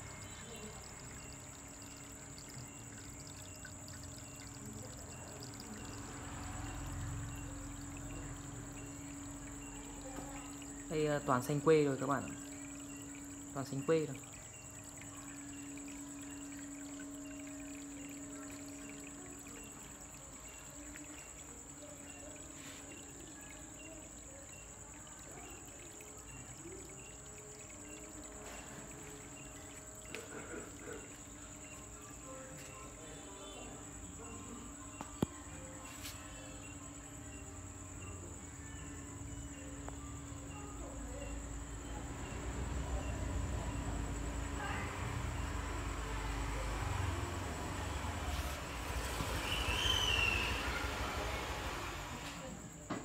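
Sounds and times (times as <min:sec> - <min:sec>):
faint steady hum: 0:00.0 - 0:52.9
water pouring and trickling: 0:00.0 - 0:53.0.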